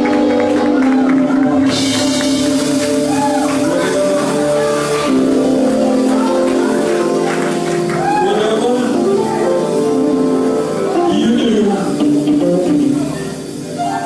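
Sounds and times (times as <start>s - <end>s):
gospel band sustained chords: 0.0s - 14.0s.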